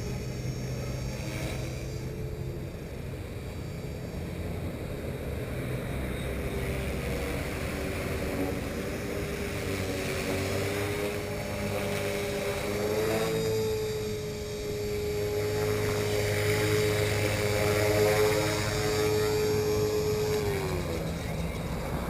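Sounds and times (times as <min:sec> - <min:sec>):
rc helicopter motor whine: 0:00.0 - 0:22.0.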